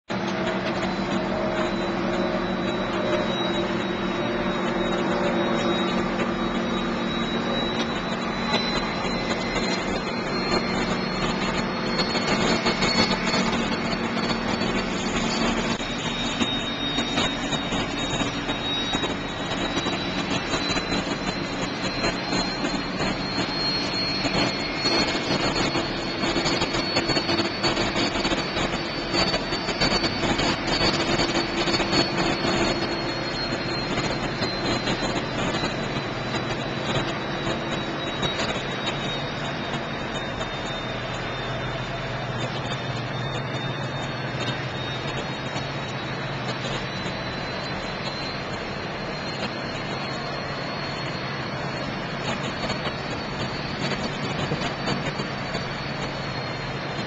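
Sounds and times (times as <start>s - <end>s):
ship machinery drone: 0.0s - 57.0s
faint high whine: 0.1s - 57.0s.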